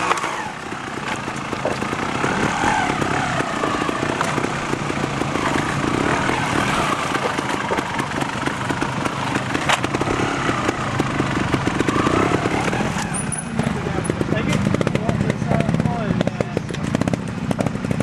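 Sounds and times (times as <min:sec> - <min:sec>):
motorcycle engine low uneven revs: 0:00.0 - 0:18.0.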